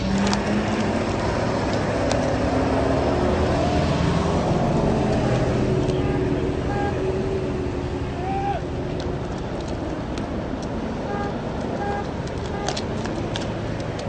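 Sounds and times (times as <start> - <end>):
vehicle engines and road noise: 0.0 - 14.0.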